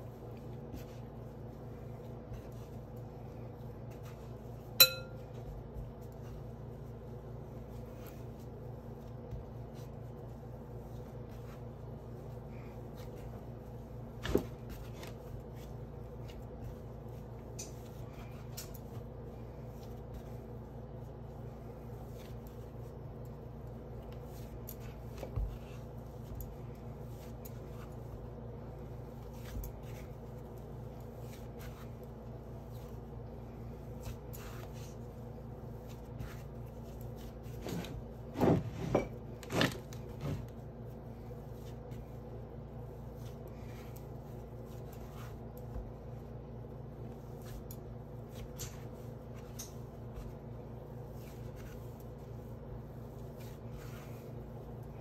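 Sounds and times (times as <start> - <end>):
hands kneading dough: 0.0 - 55.0
steady low hum: 0.0 - 55.0.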